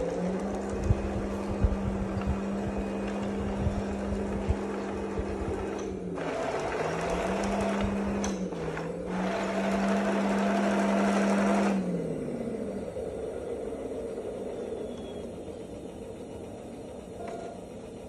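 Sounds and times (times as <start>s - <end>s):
steady hum: 0.0s - 18.0s
toy tank motors whirring: 0.0s - 18.0s.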